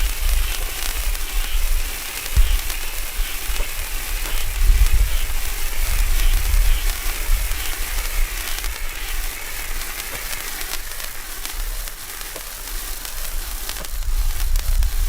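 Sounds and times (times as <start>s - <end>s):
firework fountain hissing: 0.0s - 15.0s
sharp crackles: 0.0s - 15.0s.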